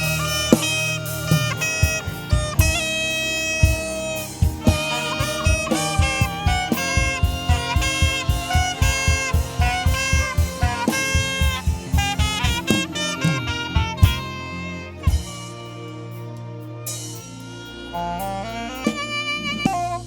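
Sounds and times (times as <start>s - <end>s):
band with steady drum beat: 0.0s - 20.0s
saxophone melody: 0.0s - 20.0s.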